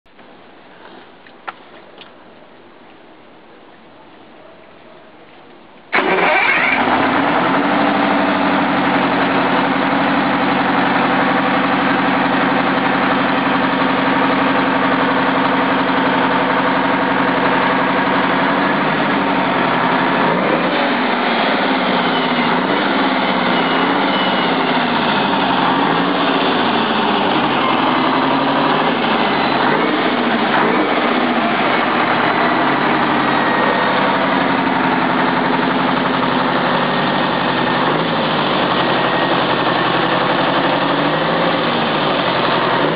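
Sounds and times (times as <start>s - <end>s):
diesel engine starting and idling: 5.9s - 42.9s.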